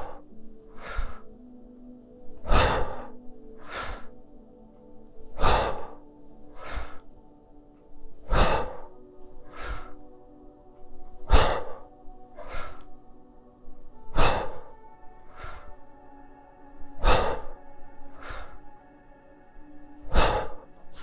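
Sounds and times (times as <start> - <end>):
man breathing hard: 0.0 - 21.0.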